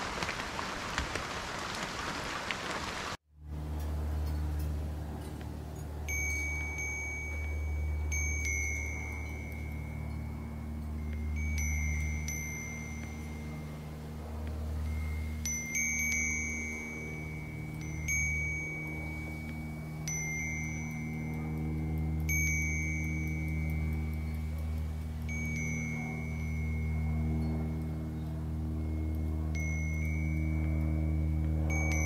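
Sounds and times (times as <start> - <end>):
low hum: 3.4 - 32.0
metal wind chime ringing: 3.5 - 32.0.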